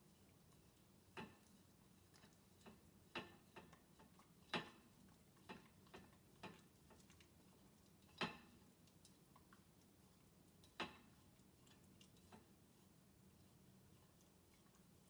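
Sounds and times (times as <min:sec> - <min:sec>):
dog licking plate: 0:00.0 - 0:15.0.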